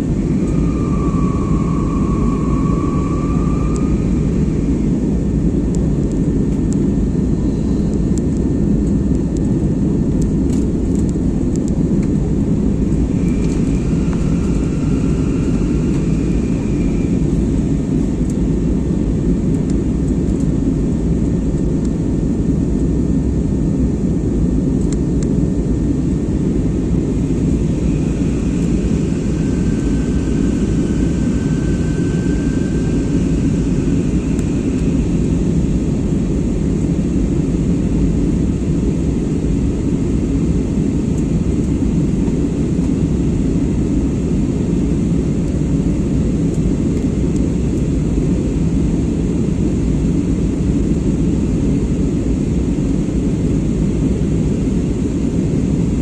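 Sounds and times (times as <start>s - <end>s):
aircraft engine roar: 0.0s - 56.0s
faint high whine: 0.0s - 56.0s.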